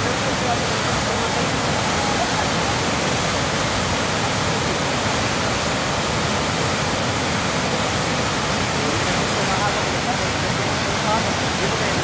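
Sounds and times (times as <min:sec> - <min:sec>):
flooded river rushing over a drop: 0:00.0 - 0:12.0.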